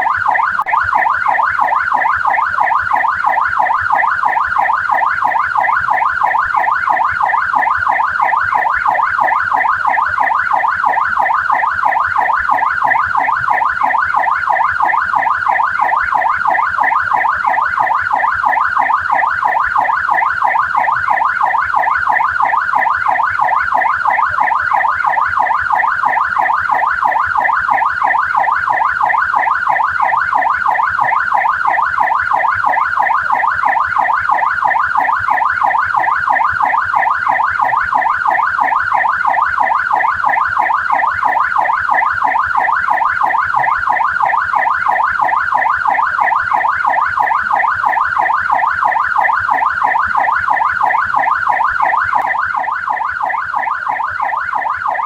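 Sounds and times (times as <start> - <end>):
police siren yelping: 0.0 - 55.0.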